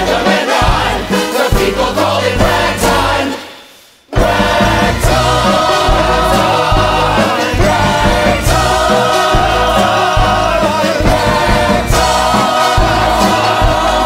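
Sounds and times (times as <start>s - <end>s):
orchestra with strong bass: 0.0s - 3.4s, 4.1s - 14.0s
choir singing: 0.0s - 14.0s.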